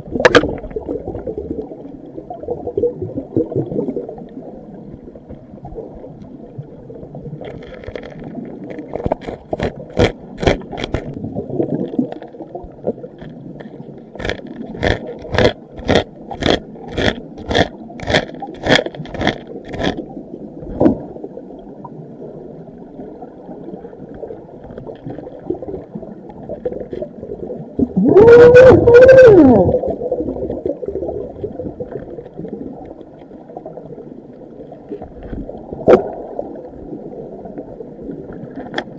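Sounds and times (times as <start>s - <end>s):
muffled water rush: 0.0s - 38.9s.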